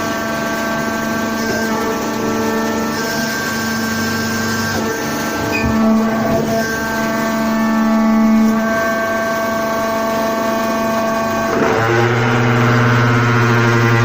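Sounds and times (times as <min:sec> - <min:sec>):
hydraulic baler motor humming: 0:00.0 - 0:14.0.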